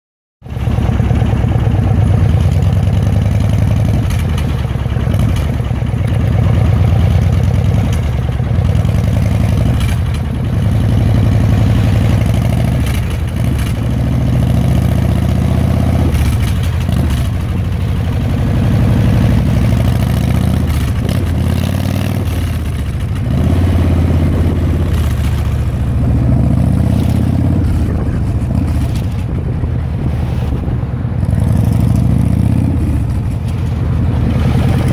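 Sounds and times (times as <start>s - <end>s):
motorcycle engine running: 0.4s - 34.9s.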